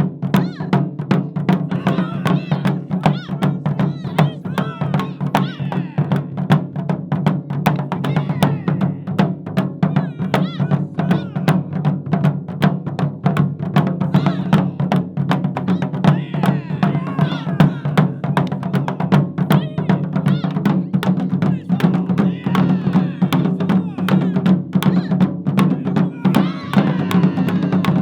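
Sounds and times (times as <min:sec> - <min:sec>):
deep booming large drums: 0:00.0 - 0:28.0
drum ensemble playing: 0:00.0 - 0:28.0.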